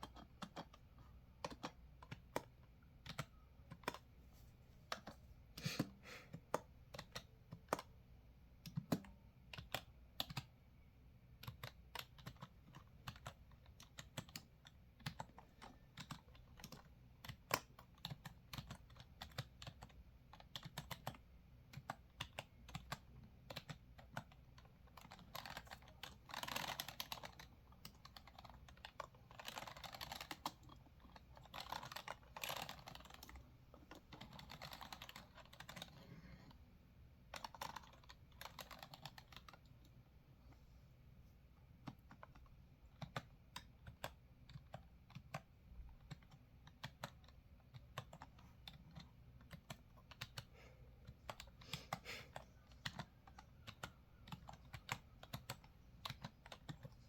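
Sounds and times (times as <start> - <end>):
keyboard typing: 0.0 - 4.1, 4.9 - 8.0, 8.6 - 10.6, 11.4 - 36.6, 37.3 - 39.9, 41.8 - 57.0.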